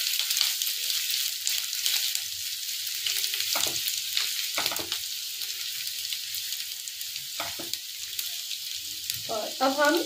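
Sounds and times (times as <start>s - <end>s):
garlic sizzling in hot oil: 0.0s - 10.0s.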